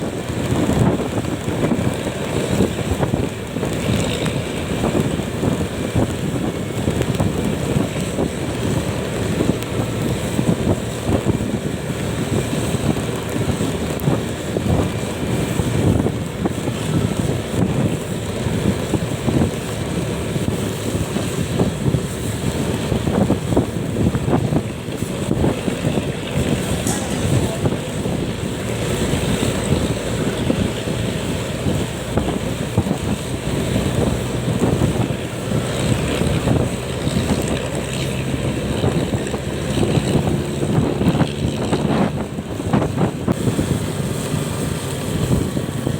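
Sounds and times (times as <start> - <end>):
road noise rumble: 0.0 - 45.9
wind buffeting microphone: 0.0 - 45.9.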